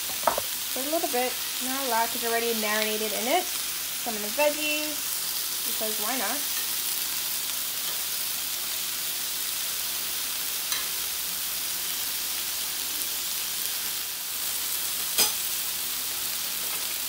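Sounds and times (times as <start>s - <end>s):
vegetables sizzling on grill pan: 0.0s - 17.0s.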